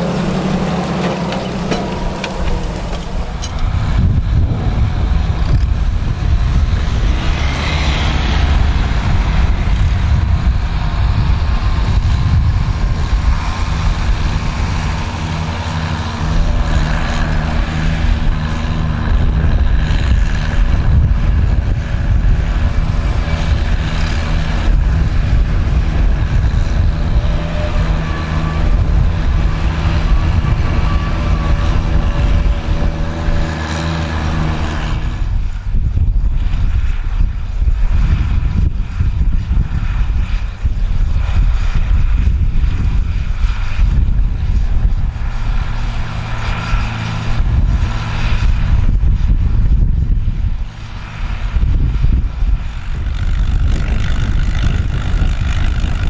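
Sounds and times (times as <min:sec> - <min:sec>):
tractor engine under load: 0:00.0 - 0:37.1, 0:39.8 - 0:56.0.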